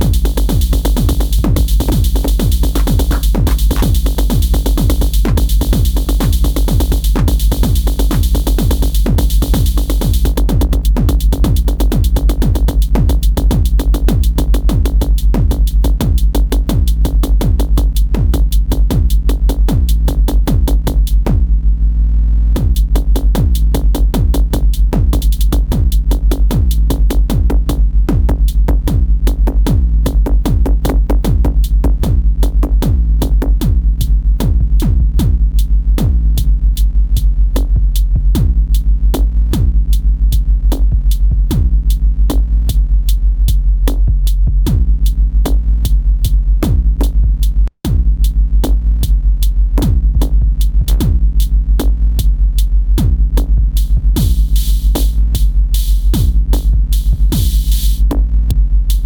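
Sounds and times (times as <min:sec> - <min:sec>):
drum machine techno beat: 0:00.0 - 0:21.5, 0:22.6 - 0:59.0.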